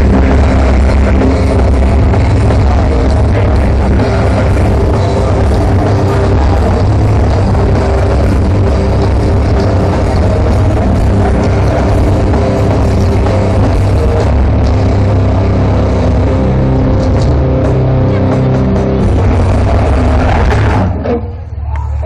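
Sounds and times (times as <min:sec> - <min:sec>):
grindcore band playing live: 0:00.0 - 0:21.5.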